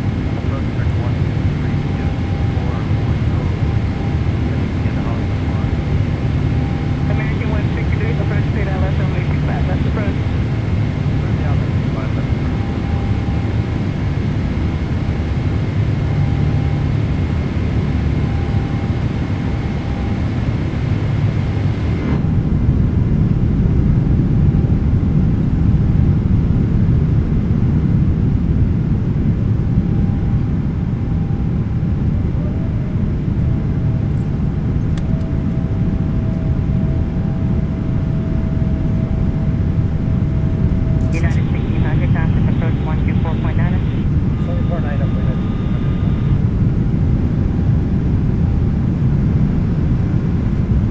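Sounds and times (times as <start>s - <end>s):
jet cabin engine roar: 0.0s - 50.9s.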